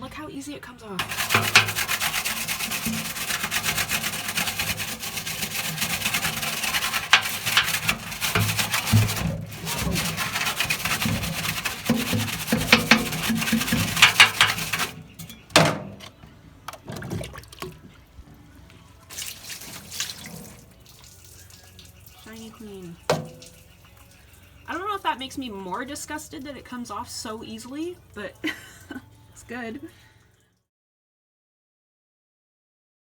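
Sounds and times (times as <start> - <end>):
scrubbing plastic: 1.0 - 29.8.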